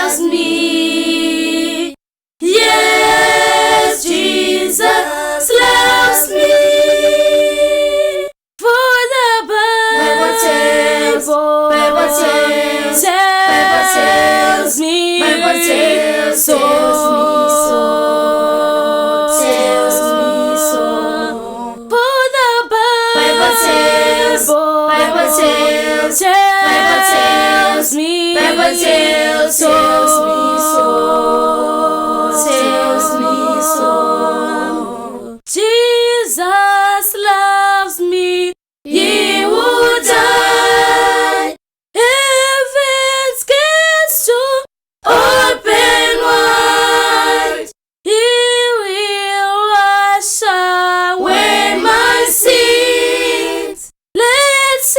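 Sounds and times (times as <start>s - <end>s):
a cappella group singing: 0.0s - 54.9s.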